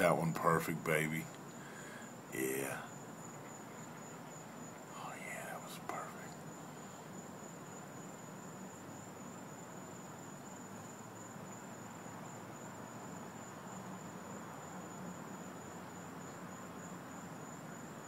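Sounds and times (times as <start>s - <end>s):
faint even hiss: 0.0s - 18.0s
night insects trilling: 0.0s - 18.0s.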